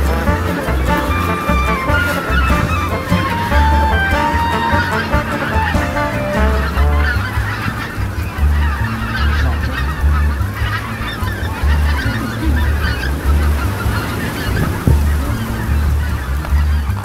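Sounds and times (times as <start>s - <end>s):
geese honking: 0.0s - 17.0s
low uneven rumble: 0.0s - 17.0s.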